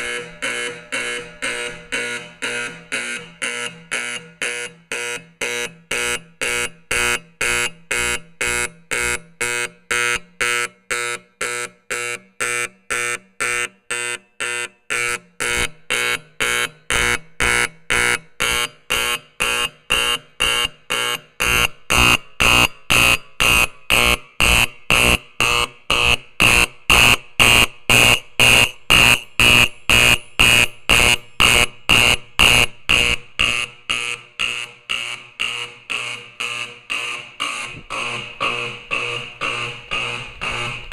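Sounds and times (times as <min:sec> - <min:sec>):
fire alarm horn pulsed blasts: 0:00.0 - 0:40.9.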